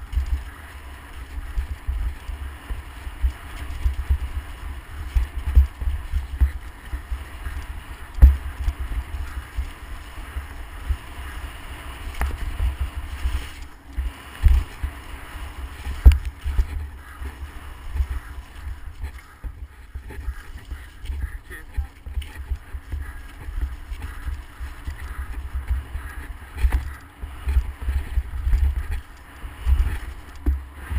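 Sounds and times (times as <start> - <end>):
bike tyres rumbling on dirt: 0.0 - 30.9.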